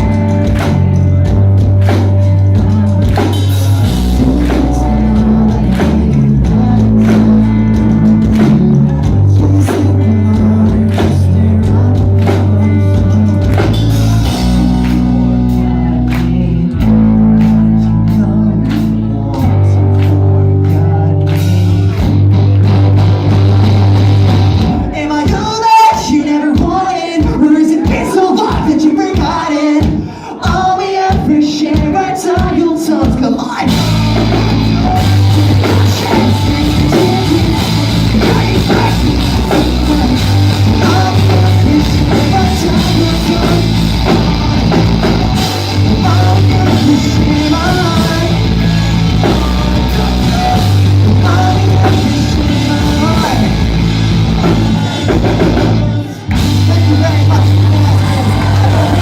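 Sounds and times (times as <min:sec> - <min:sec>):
person singing: 0:00.0 - 0:59.0
pop-punk band playing live: 0:00.0 - 0:59.0.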